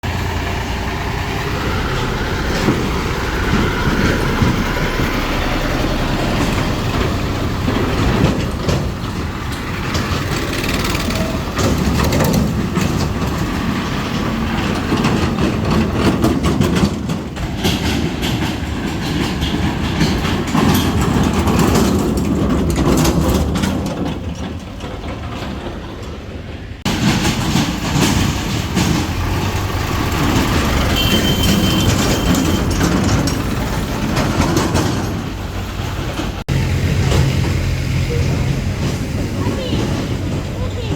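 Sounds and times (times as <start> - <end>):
tractor diesel engine running hard: 0.0 - 40.9.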